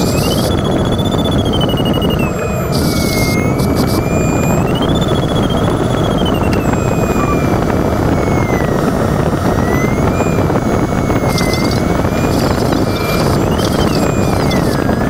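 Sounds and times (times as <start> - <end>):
electronic variometer tone: 0.0 - 15.0.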